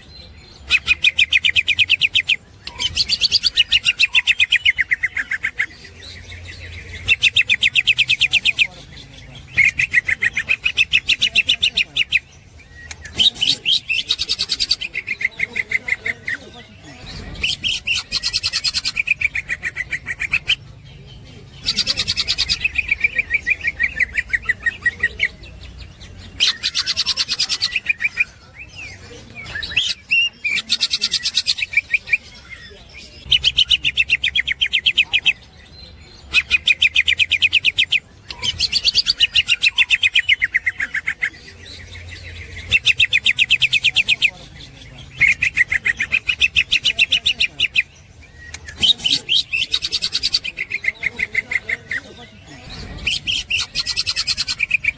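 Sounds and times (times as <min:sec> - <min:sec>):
bird fast high chattering song: 0:00.6 - 0:32.6, 0:33.2 - 0:54.9.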